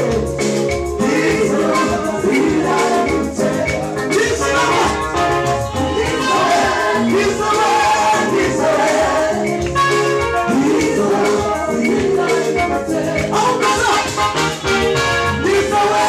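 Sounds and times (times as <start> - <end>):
gospel group singing: 0.0 - 16.0
musical accompaniment: 0.0 - 16.0.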